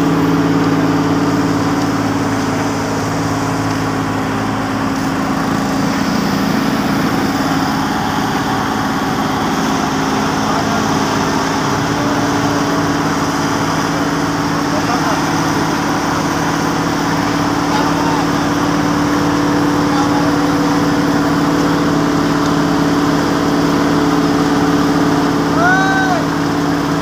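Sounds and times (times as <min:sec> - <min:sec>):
asphalt paver diesel engine hum: 0:00.0 - 0:27.0
dump truck engine running: 0:00.0 - 0:27.0.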